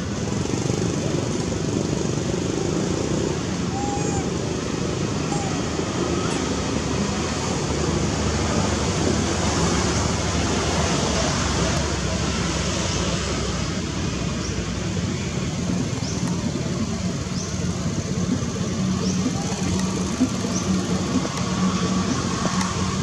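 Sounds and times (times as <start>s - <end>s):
outdoor rumble and hiss: 0.0s - 23.0s.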